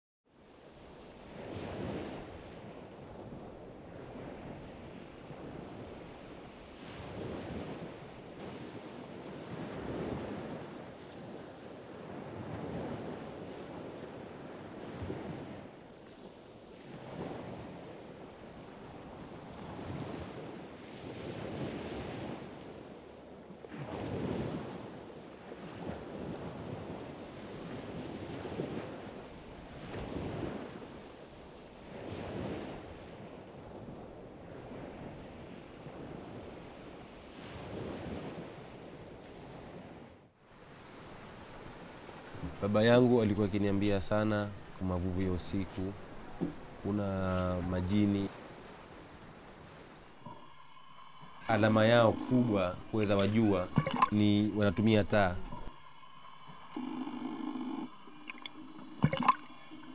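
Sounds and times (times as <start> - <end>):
wind: 0.2 - 59.9
sea waves washing in: 0.4 - 59.9.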